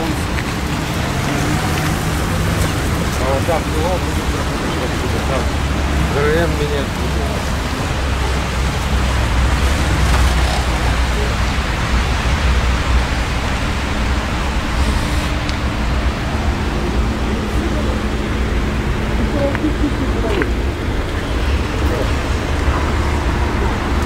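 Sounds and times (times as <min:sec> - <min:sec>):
rain hiss: 0:00.0 - 0:24.0.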